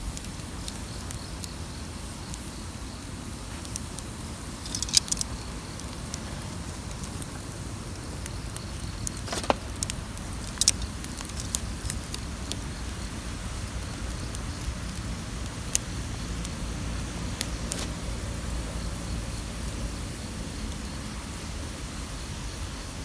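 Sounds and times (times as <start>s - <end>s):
campfire crackling and popping: 0.0s - 21.7s.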